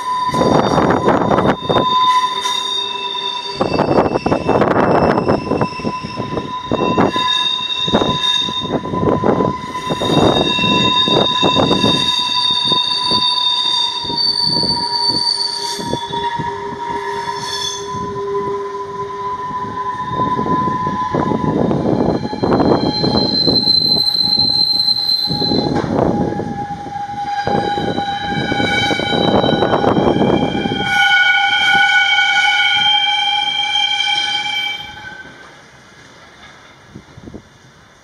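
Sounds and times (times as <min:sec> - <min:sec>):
wheels squealing high-pitched: 0:00.0 - 0:35.5
freight train wheels rumbling: 0:00.0 - 0:38.0.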